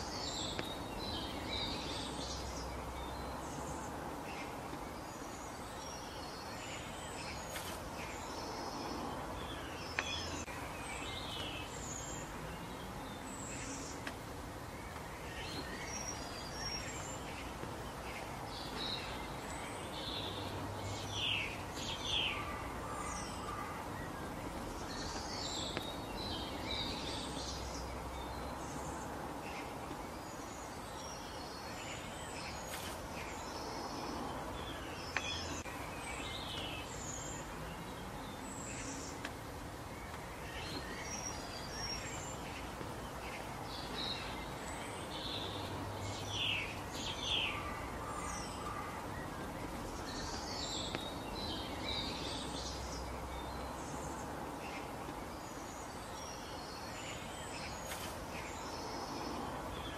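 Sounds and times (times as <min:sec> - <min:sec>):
birds chirping: 0:00.0 - 0:59.9
steady background hiss: 0:00.0 - 0:59.9.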